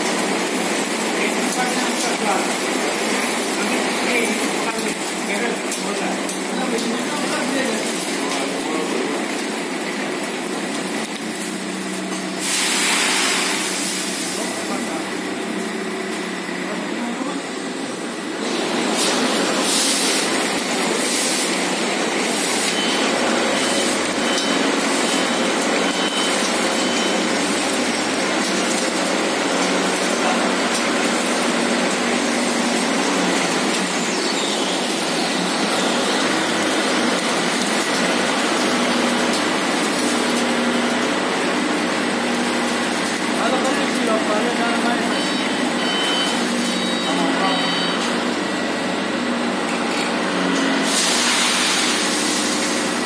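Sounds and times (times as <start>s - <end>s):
bagging machine rushing noise: 0.0s - 53.0s.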